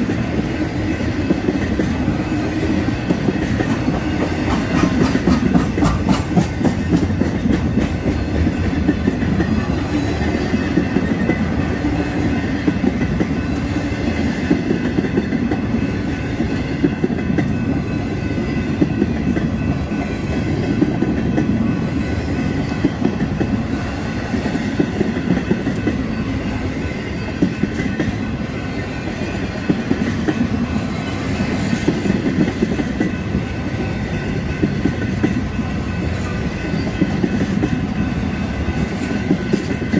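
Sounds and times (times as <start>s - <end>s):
crossing bell ringing: 0.0s - 39.9s
train wheels clicking over rail joints: 0.0s - 39.9s.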